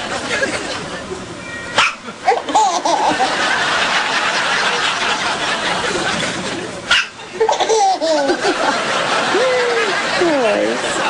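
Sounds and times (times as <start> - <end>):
soft laughter: 2.0 - 11.0.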